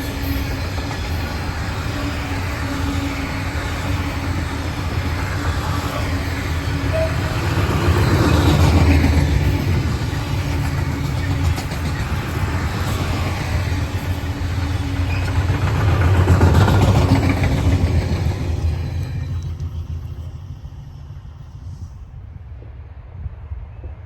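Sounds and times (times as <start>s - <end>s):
train engine hum: 0.0s - 24.0s.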